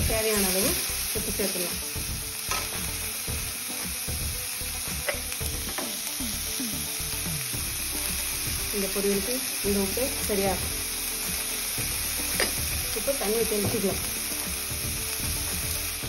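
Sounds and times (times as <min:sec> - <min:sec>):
beans sizzling in oil: 0:00.0 - 0:16.0.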